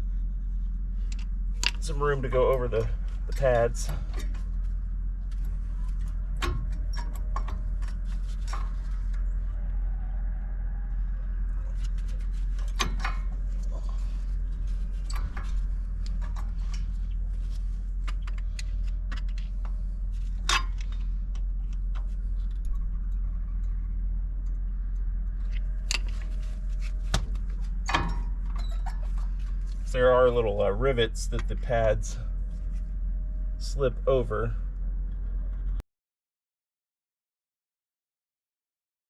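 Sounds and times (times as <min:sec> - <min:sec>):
steady low hum: 0:00.0 - 0:35.8.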